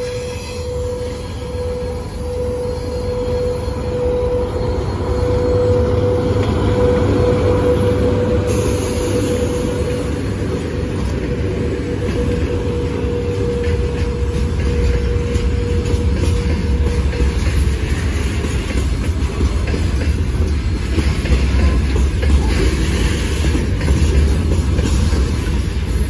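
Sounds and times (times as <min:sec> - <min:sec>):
freight wagons rolling past: 0:00.0 - 0:26.0
locomotive whine: 0:00.0 - 0:26.0
wheels rumbling on rail: 0:00.0 - 0:26.0.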